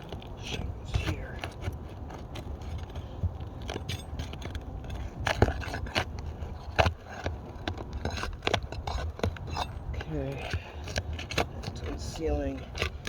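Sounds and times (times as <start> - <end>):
shingles cracking: 0.0 - 13.0
shingles scraping and crackling: 0.0 - 13.0.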